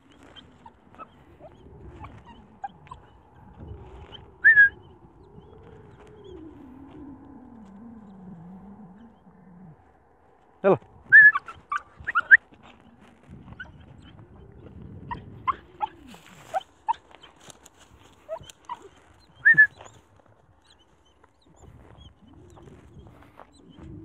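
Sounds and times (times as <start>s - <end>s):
small dog whimpering: 0.0s - 9.8s, 11.1s - 20.0s, 20.6s - 24.0s.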